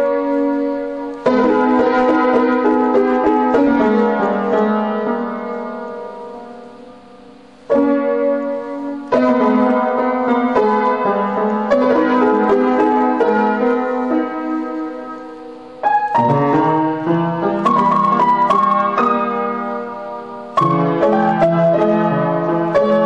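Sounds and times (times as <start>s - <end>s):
piano chords ringing: 0.0s - 23.0s.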